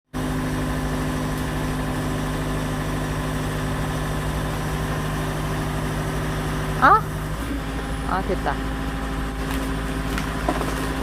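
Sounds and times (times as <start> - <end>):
engine running steadily: 0.1 - 11.0.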